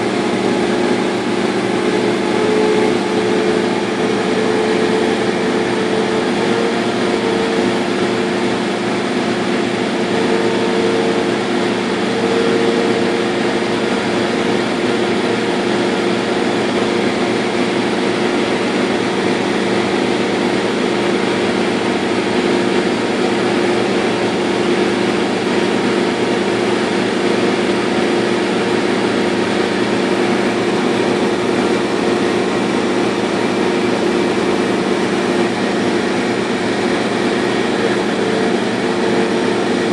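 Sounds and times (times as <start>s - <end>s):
high machine tone: 0.0s - 39.9s
laser cutter machine hum: 0.0s - 39.9s.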